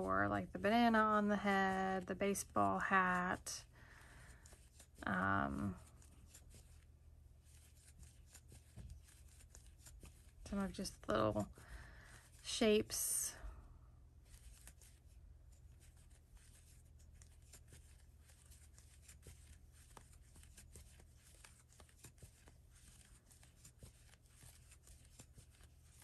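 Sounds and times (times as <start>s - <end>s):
crochet hook scratching yarn: 0.0s - 3.7s, 4.3s - 11.6s, 14.2s - 26.0s.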